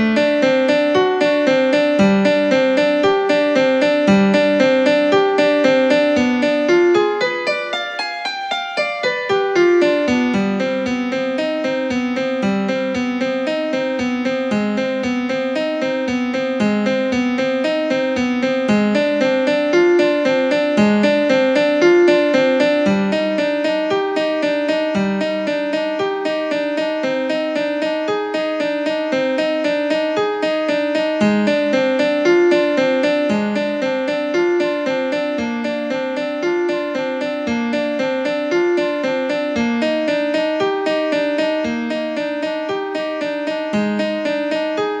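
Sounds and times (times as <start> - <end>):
piano music: 0.0 - 45.0.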